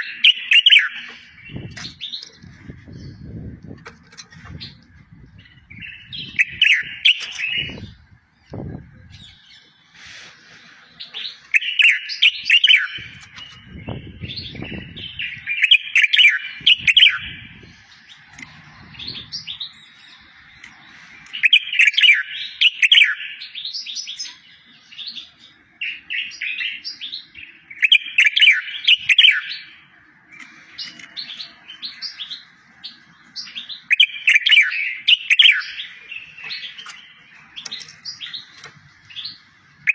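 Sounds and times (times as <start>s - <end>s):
songbird warbling: 0.0s - 39.9s.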